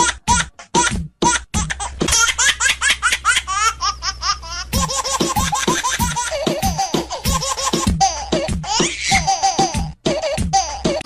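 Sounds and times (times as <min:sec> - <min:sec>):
high giggles with squeals: 0:00.0 - 0:11.0.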